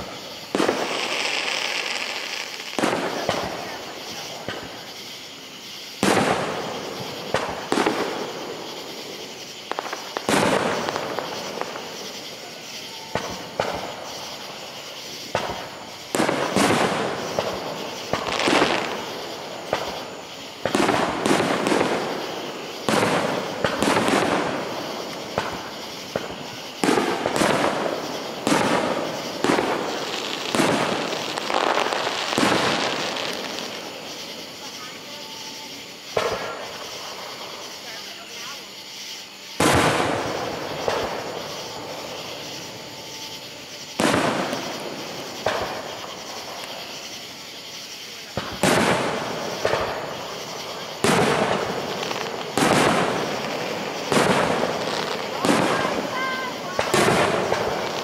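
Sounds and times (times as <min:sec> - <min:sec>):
firework shells bursting: 0:00.0 - 0:58.0.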